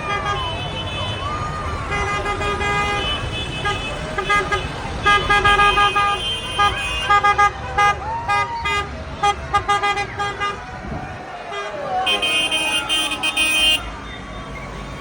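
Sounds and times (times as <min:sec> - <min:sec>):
tractor engines rumbling: 0:00.0 - 0:15.0
tractor horns tooting: 0:00.0 - 0:15.0.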